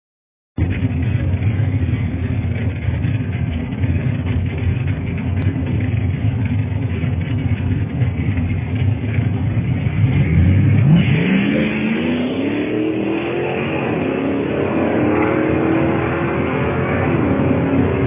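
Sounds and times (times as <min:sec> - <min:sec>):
drag car engine accelerating: 0:00.6 - 0:18.0.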